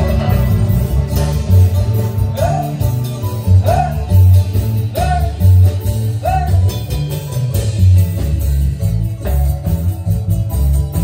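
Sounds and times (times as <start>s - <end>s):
band music over loudspeakers: 0.0s - 11.0s
heavy bass beat: 0.0s - 11.0s.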